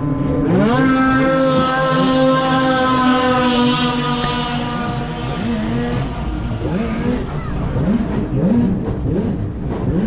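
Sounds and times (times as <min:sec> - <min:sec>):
snowmobile engines at full throttle: 0:00.0 - 0:10.0.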